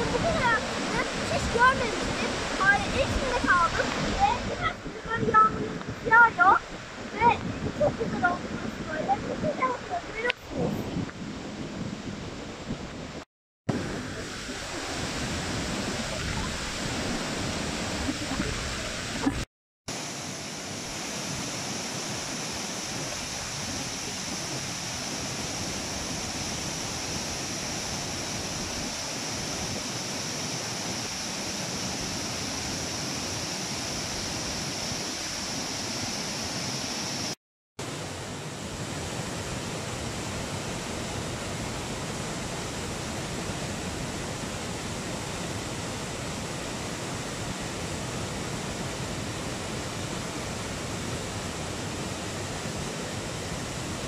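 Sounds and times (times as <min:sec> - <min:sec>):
waterfall rushing over rock: 0:00.0 - 0:10.6, 0:13.7 - 0:54.0.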